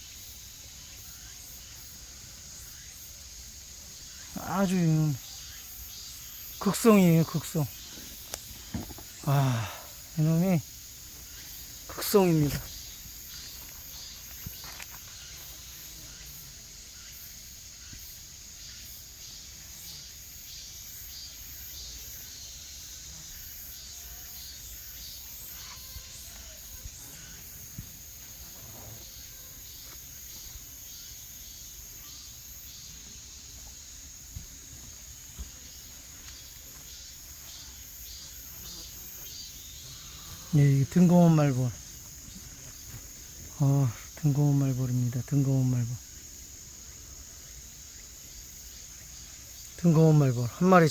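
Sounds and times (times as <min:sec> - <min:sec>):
high-pitched insect chorus: 0:00.0 - 0:50.9.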